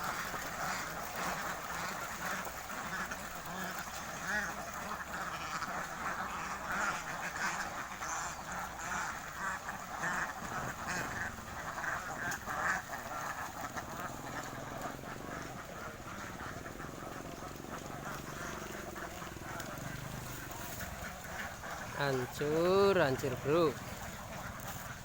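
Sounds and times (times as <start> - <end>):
flock of ducks quacking: 0.0 - 25.0.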